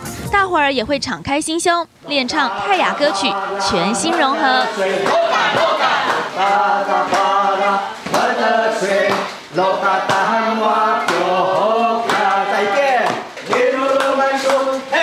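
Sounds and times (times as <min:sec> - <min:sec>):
group of people singing: 0:02.0 - 0:15.0.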